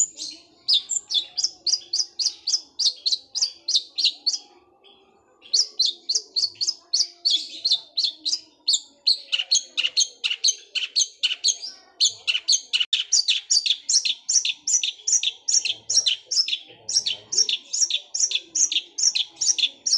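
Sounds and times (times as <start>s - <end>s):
bird rapid high chirps: 0.0s - 19.9s.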